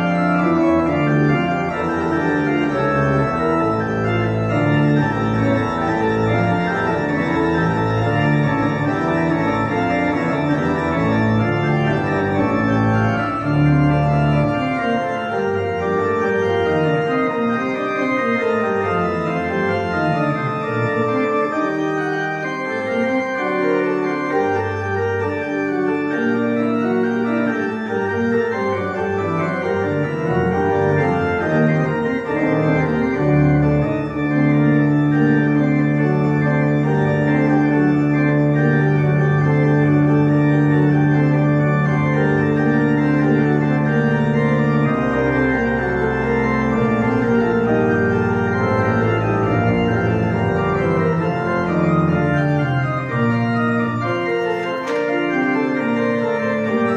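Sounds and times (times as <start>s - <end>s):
church organ playing chords: 0.0s - 56.9s.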